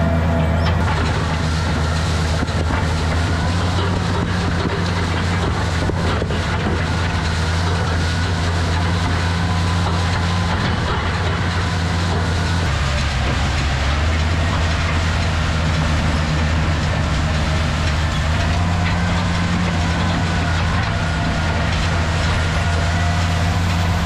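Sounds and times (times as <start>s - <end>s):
tractor engine running: 0.0s - 24.0s
rake rattling through corn stalks: 1.1s - 24.0s.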